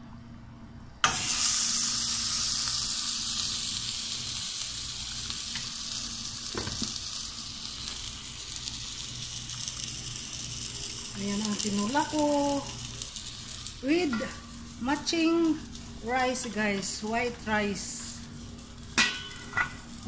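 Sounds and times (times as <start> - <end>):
stew sizzling in a pan: 1.0 - 20.0.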